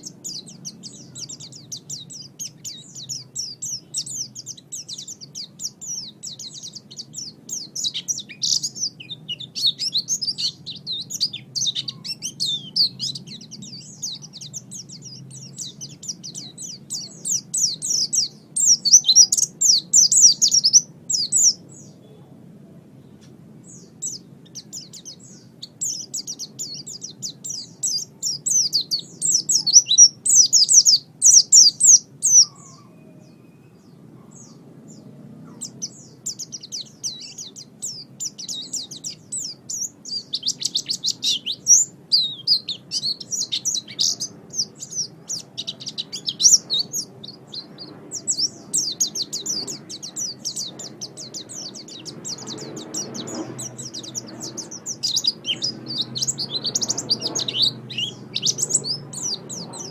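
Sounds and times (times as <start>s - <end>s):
small bird twittering song: 0.0s - 59.9s.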